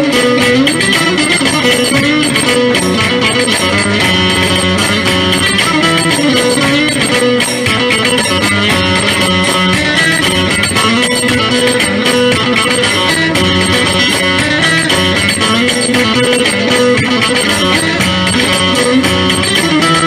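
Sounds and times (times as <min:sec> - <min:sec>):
folk dance music: 0:00.0 - 0:20.0.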